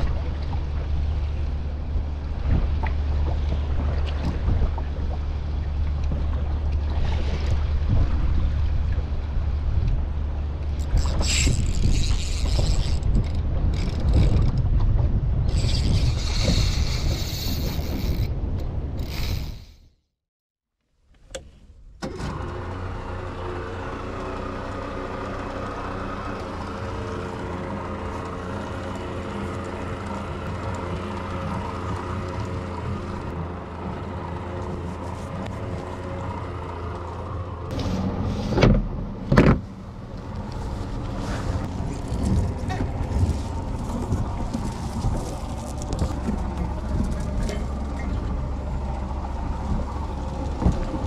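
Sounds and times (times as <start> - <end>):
outboard motor drone: 0.0 - 19.8, 22.0 - 51.0.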